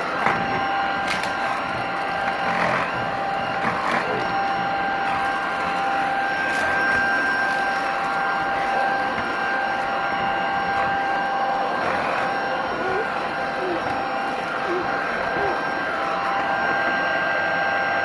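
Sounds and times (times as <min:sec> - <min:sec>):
stick vacuum whining: 0:00.0 - 0:18.0.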